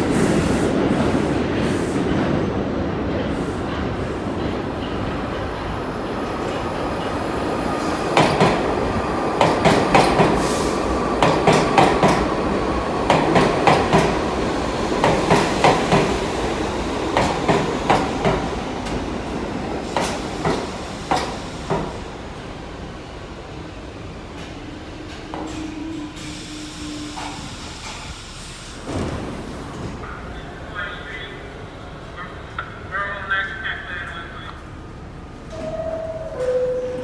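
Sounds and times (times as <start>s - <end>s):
subway train rolling rumble: 0.0s - 37.0s.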